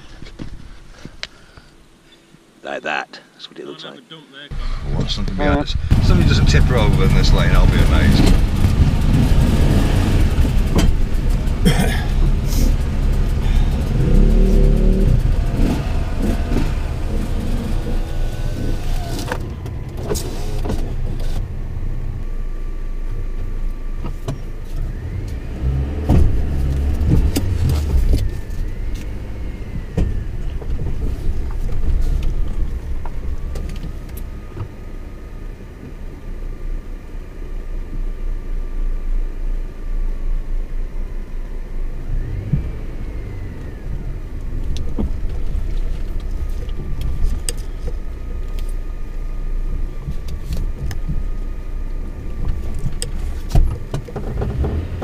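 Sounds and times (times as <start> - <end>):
engine and drivetrain rumble: 4.5 - 55.0.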